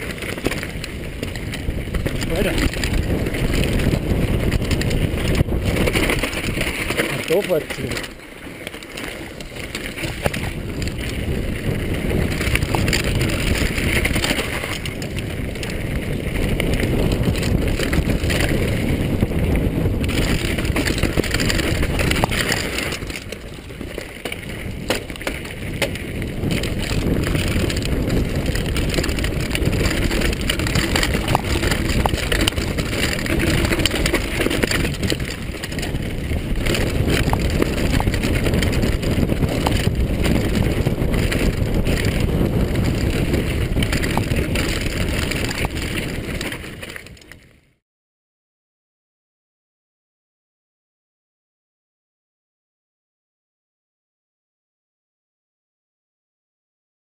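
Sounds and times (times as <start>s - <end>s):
wind buffeting microphone: 0.0s - 47.4s
bike clicks and rattles: 0.0s - 47.8s
bike tyres rumbling on dirt: 0.0s - 47.8s.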